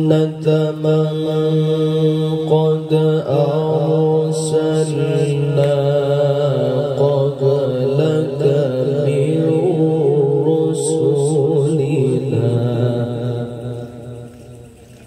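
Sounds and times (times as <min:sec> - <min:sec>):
man reciting melodically through loudspeaker: 0:00.0 - 0:14.8.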